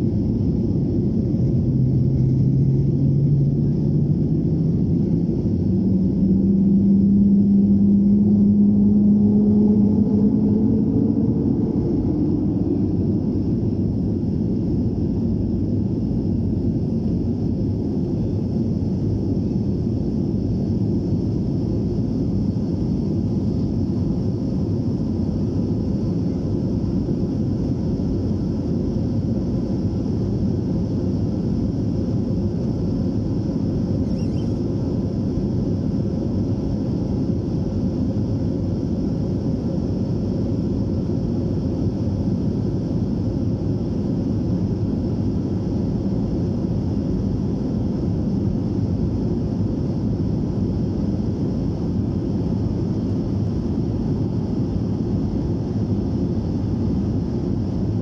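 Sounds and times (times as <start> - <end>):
airliner cabin rumble: 0.0 - 58.0
faint high engine whine: 0.0 - 58.0.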